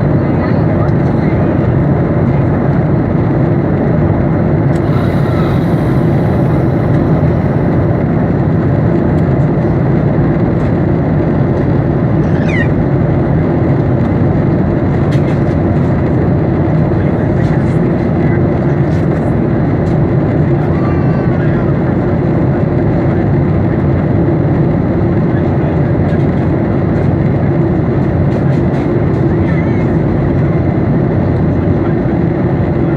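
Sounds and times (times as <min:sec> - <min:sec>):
airplane cabin engine noise: 0:00.0 - 0:32.9.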